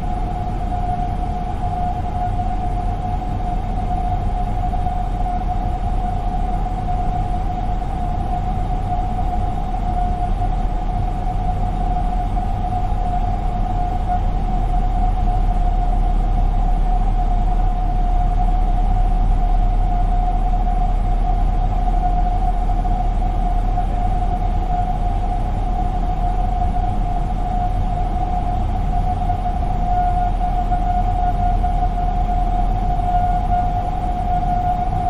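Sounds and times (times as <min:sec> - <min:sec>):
jet engine whine: 0:00.0 - 0:35.0.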